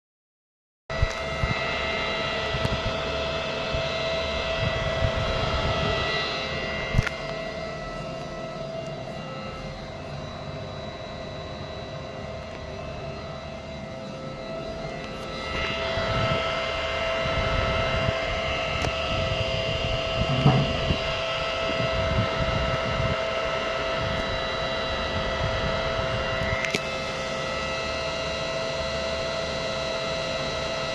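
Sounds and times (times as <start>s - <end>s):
electrical hum and whine: 0.9s - 30.9s.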